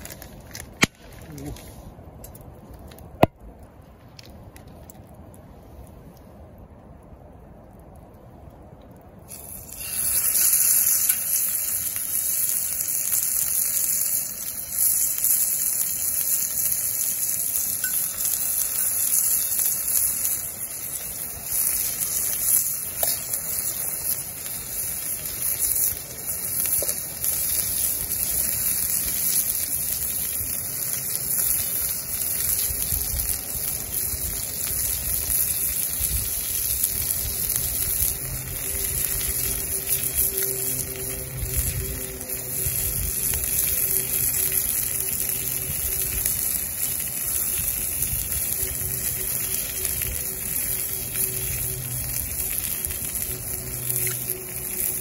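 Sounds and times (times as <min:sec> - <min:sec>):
meat sizzling in a skillet: 0:09.3 - 0:55.0.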